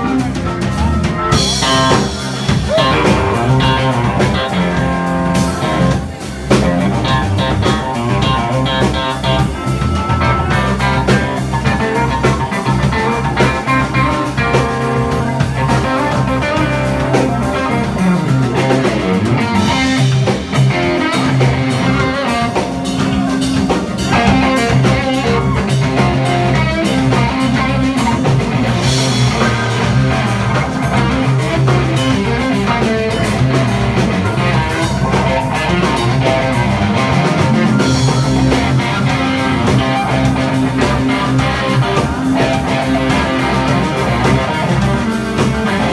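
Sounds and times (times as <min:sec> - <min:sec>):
drum kit: 0:00.0 - 0:45.9
electric guitar blues-rock: 0:00.0 - 0:45.9.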